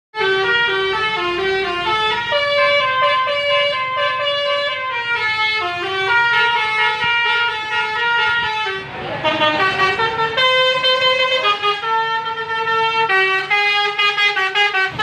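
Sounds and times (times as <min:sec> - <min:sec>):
air horn playing a melody: 0:00.2 - 0:15.0.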